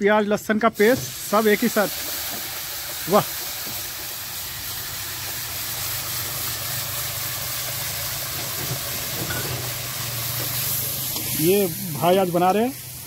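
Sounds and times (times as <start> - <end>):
paste sizzling in hot oil: 0.8 - 13.0.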